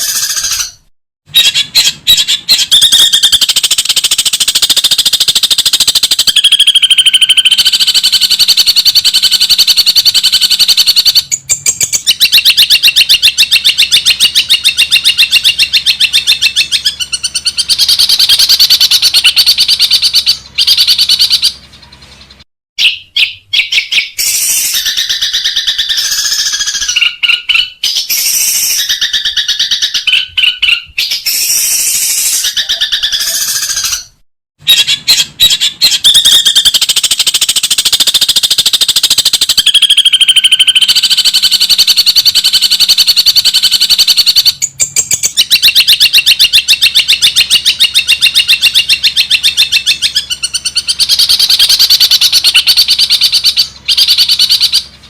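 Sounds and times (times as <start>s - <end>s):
shrike singing harsh repeated notes: 0.0s - 21.6s, 22.8s - 55.0s.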